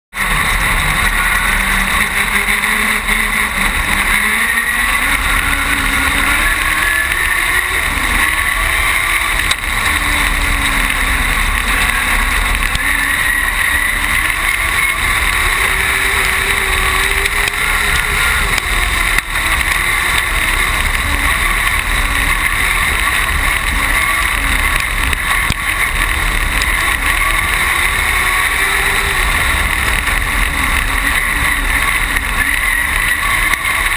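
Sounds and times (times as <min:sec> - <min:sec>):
motorcycle engine running hard: 0:00.0 - 0:33.9.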